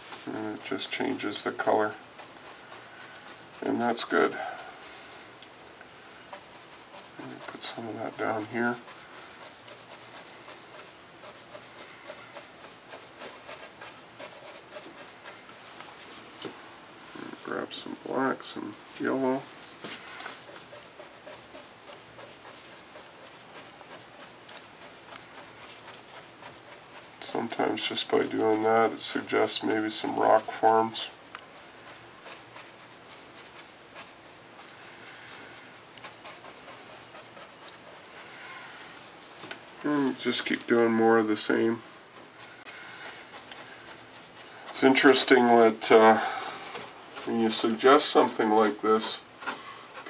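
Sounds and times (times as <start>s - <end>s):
paintbrush dabbing on board: 0.0s - 5.3s, 6.2s - 15.6s, 19.8s - 38.4s, 40.2s - 50.0s.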